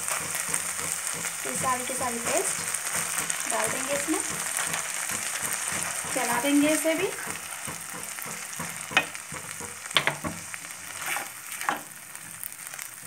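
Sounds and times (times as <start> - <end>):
paste frying sizzle: 0.0 - 13.0
spatula scraping a pan: 0.0 - 13.0.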